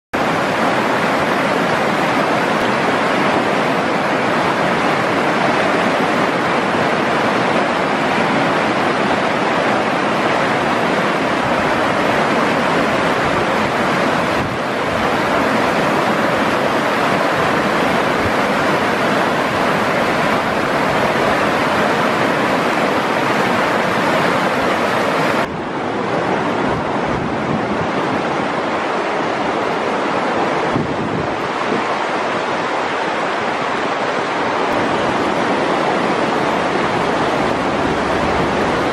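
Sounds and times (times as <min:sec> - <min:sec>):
river rushing over rocks: 0:00.2 - 0:38.9.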